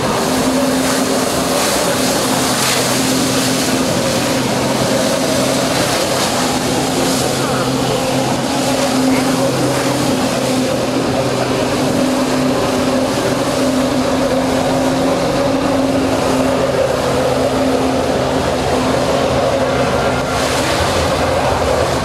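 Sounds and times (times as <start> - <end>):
water jets hissing and spraying: 0.0 - 22.0
watercraft engine at high revs: 0.0 - 22.0.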